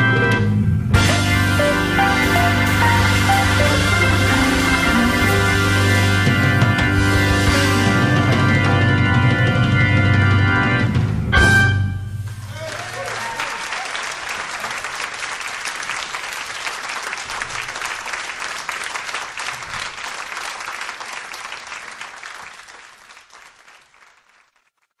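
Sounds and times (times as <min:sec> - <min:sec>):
audience applauding: 0:01.0 - 0:08.5, 0:12.4 - 0:24.9.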